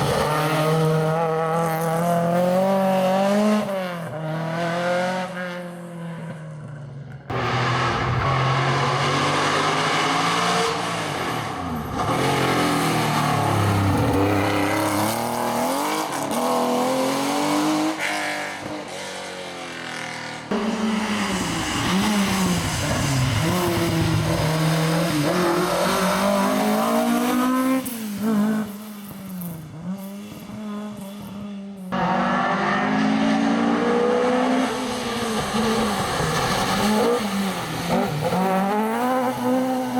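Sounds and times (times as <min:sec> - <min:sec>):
rally car engines revving: 0:00.0 - 0:06.6, 0:07.2 - 0:39.9.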